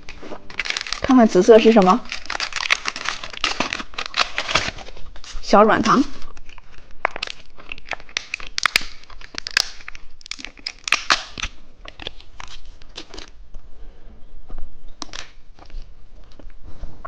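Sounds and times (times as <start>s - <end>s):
plastic packaging crinkling: 0.0s - 13.4s, 15.0s - 16.6s.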